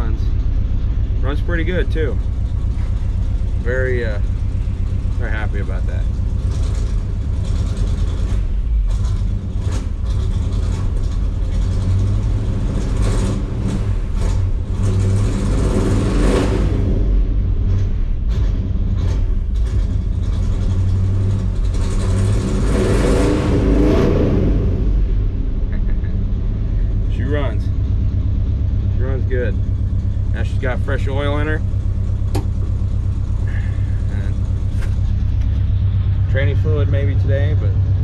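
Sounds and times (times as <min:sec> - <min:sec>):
pickup engine rumbling: 0:00.0 - 0:38.0.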